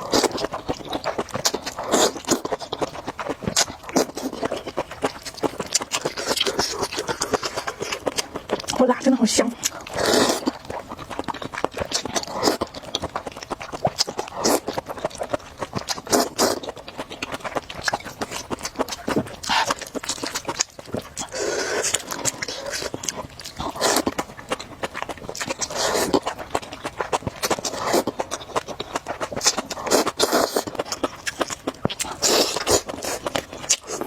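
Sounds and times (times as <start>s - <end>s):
wet chewing and mouth smacks: 0.0s - 34.0s.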